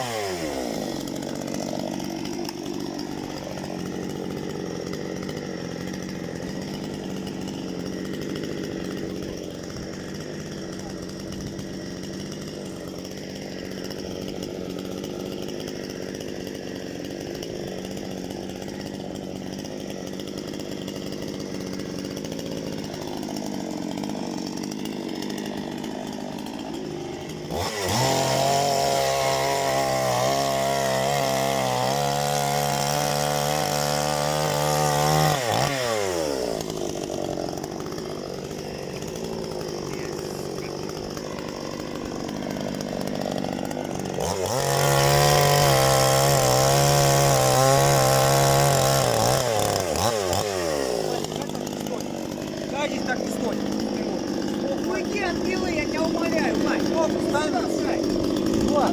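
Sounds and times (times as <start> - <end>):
chainsaw idling and revving: 0.0 - 58.9.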